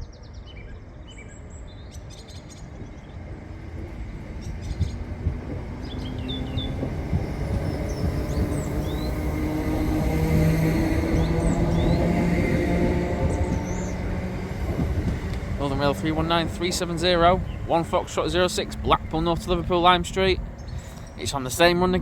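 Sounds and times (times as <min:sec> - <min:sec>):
birds chirping: 0:00.0 - 0:22.0
train rumbling: 0:00.9 - 0:22.0.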